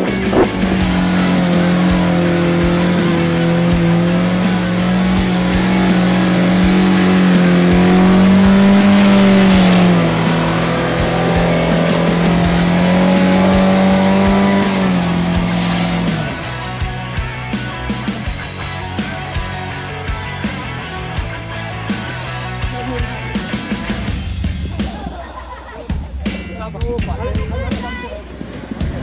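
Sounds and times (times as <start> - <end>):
suv engine pulling through mud: 0.0 - 25.6, 27.7 - 29.0.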